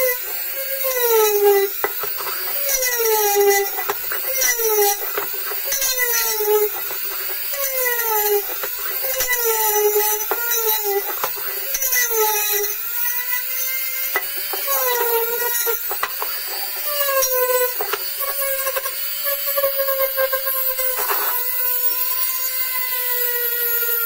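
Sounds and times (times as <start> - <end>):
polishing wheel scraping metal: 0.0 - 22.3
rotary tool whining: 0.0 - 24.0.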